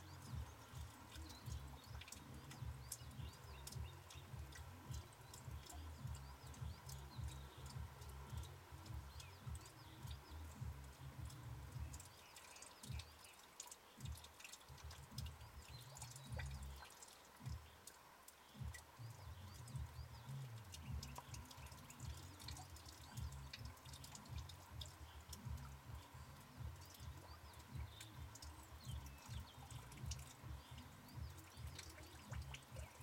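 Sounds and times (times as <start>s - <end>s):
light ticks: 0.0s - 33.0s
small birds chirping: 0.0s - 33.0s.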